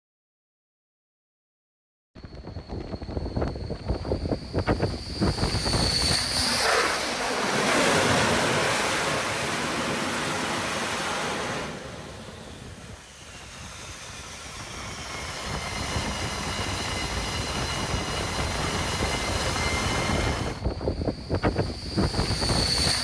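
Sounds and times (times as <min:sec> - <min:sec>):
high jet engine whine: 0:02.2 - 0:23.0
jet engines roaring: 0:02.6 - 0:23.0.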